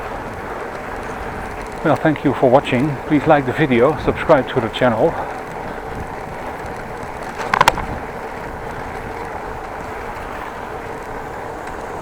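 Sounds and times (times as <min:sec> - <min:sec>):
bicycle rolling noise: 0:00.0 - 0:12.0
wind noise: 0:00.0 - 0:12.0.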